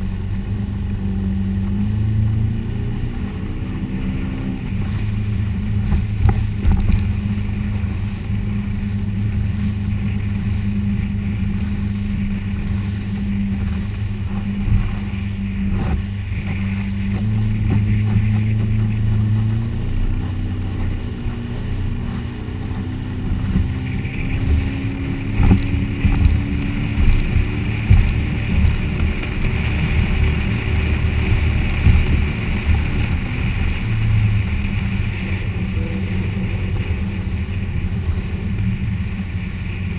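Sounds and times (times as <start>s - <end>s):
motorboat engine running: 0.0s - 39.9s
water noise: 0.0s - 39.9s
wind noise: 0.0s - 39.9s.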